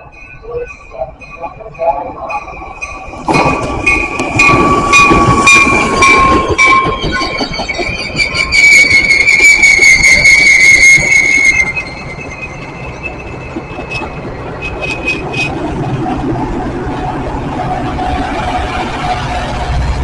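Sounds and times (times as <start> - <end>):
train wheel squeal: 0.0 - 16.1
train clacking over rail joints: 0.0 - 20.0
train rumble: 0.0 - 20.0.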